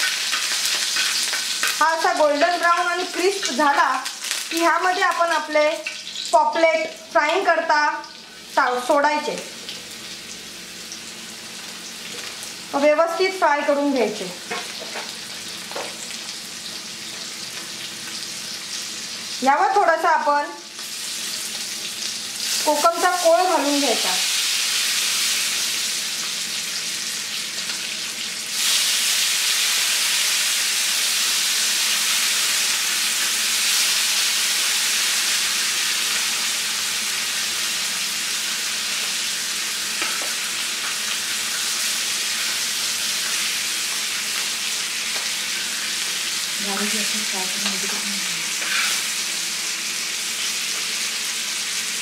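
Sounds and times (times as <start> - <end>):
fish sizzling in hot oil: 0.0 - 52.0.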